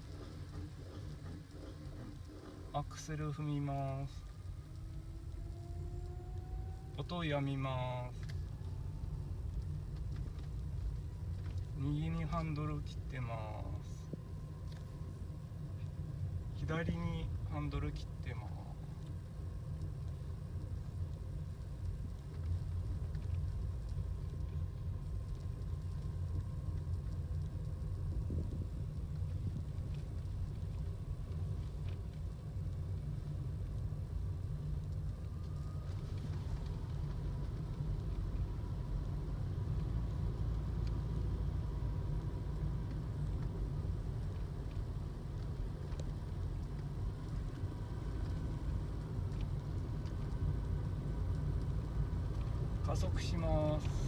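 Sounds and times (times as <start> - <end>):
car cabin road rumble: 0.0 - 54.0
faint steady whine: 0.0 - 54.0.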